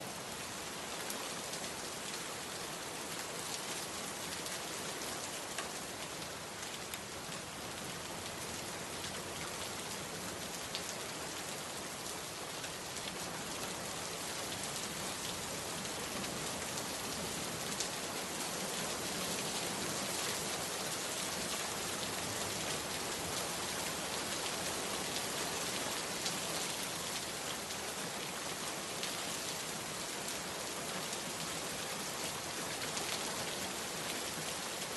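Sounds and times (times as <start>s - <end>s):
steady rainfall hiss: 0.0s - 34.9s.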